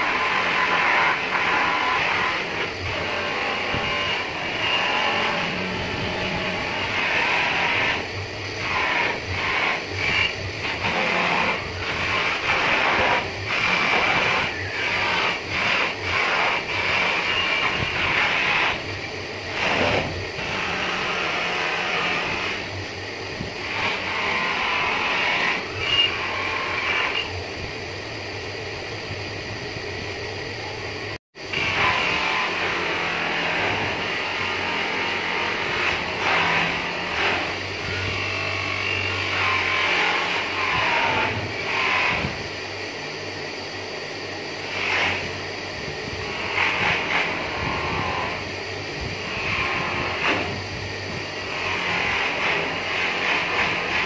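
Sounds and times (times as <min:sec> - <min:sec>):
polishing motor hum: 0:00.0 - 0:54.0.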